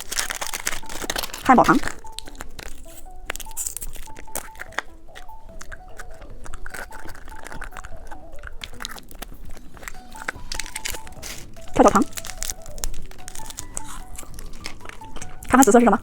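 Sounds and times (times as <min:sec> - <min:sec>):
light background music: 0:00.0 - 0:16.0
plastic candy packaging crinkling: 0:00.0 - 0:16.0.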